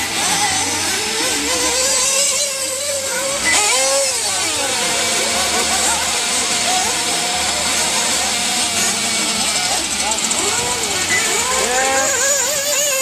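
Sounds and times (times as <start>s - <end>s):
small nitro engines whining: 0.0s - 13.0s.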